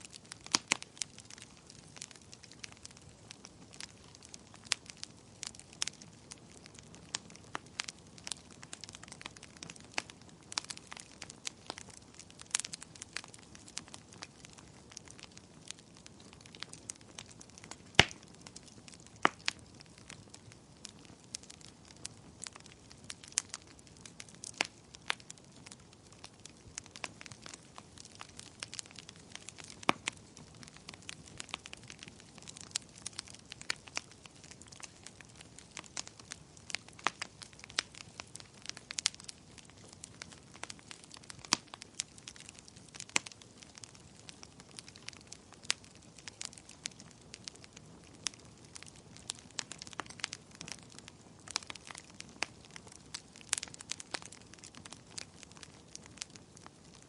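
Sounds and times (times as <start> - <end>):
fire pops and snaps: 0.0 - 57.0
soft steady hiss: 0.0 - 57.0
wood fire crackling: 0.0 - 57.0.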